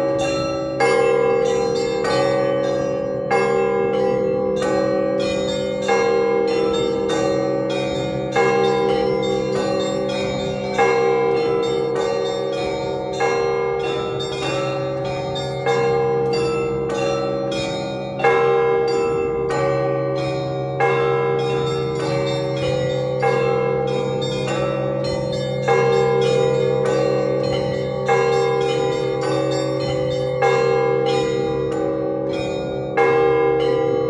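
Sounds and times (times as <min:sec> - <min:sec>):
heavy bell strikes: 0:00.0 - 0:34.0.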